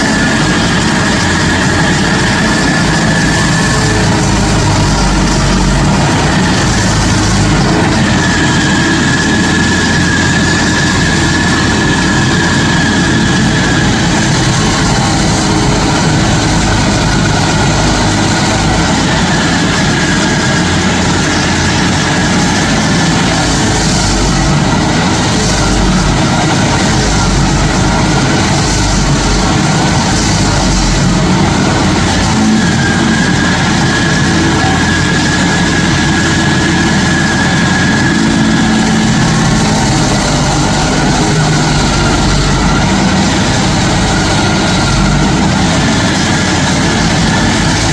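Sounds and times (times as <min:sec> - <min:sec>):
high whine: 0:00.0 - 0:47.9
stump grinder running: 0:00.0 - 0:47.9.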